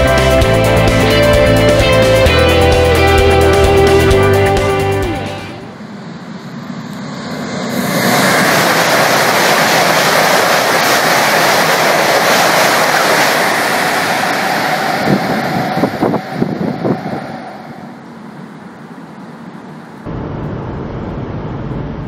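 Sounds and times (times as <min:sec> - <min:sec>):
high-speed train passing: 0:00.0 - 0:21.1.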